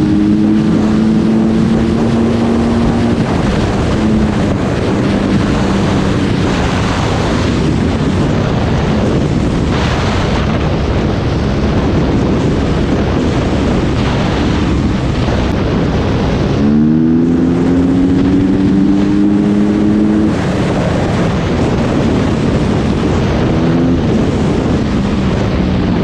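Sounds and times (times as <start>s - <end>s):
dirt bike engine running: 0.0s - 26.0s
wind rushing over microphone: 0.0s - 26.0s.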